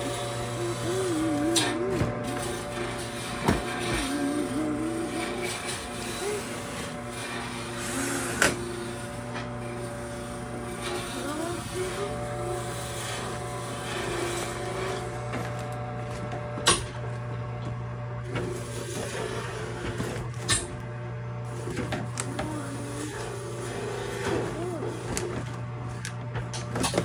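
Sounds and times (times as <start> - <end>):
electric motor hum: 0.0 - 27.0.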